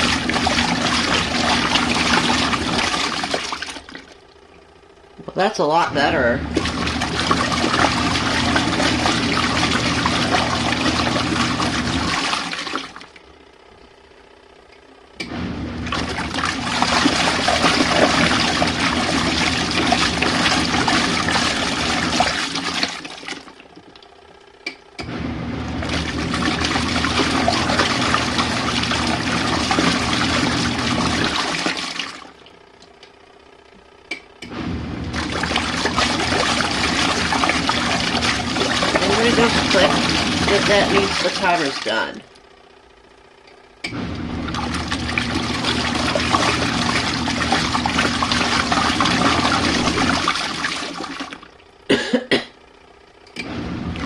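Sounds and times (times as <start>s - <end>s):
water churning: 0.0s - 4.3s, 5.3s - 13.2s, 15.4s - 24.1s, 25.1s - 32.5s, 34.6s - 42.4s, 43.9s - 51.7s
washing machine agitating: 0.0s - 13.9s, 14.6s - 33.2s, 34.2s - 42.9s, 43.8s - 52.1s, 53.3s - 54.0s.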